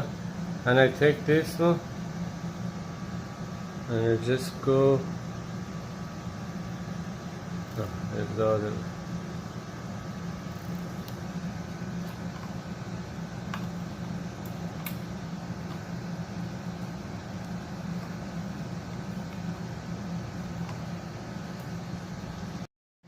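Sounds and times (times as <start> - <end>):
low mechanical hum: 0.0 - 22.7.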